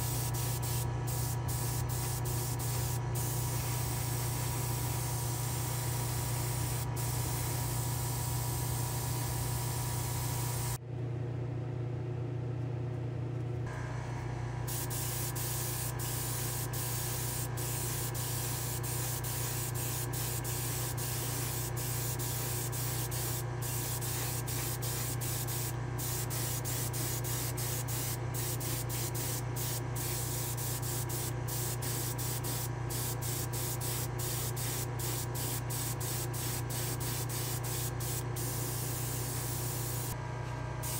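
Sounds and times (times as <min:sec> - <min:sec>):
airbrush spraying hiss: 0:00.0 - 0:10.8, 0:14.7 - 0:40.2
steady low hum: 0:00.0 - 0:40.9.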